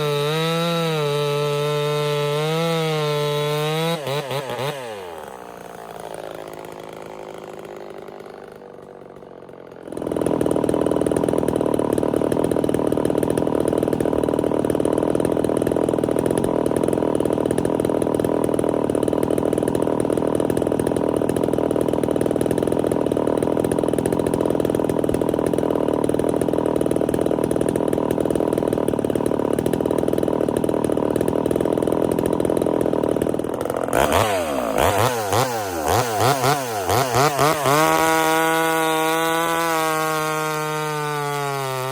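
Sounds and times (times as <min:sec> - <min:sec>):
chainsaw cutting firewood: 0:00.0 - 0:41.9
chainsaw engine revving: 0:00.0 - 0:41.9.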